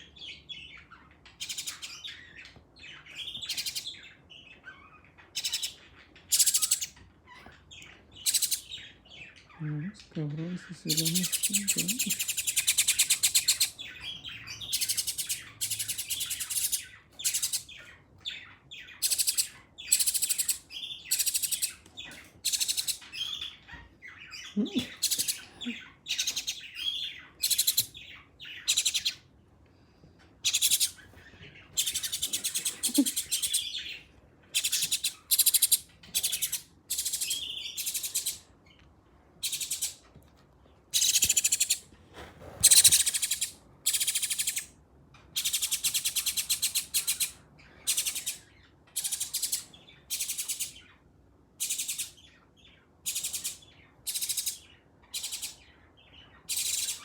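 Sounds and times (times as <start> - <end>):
nestlings begging calls: 0.6 - 7.0, 7.8 - 9.6, 10.8 - 29.3, 30.4 - 38.5, 39.4 - 40.0, 40.9 - 41.9, 42.6 - 44.7, 45.3 - 50.9, 51.6 - 52.4, 53.0 - 57.0.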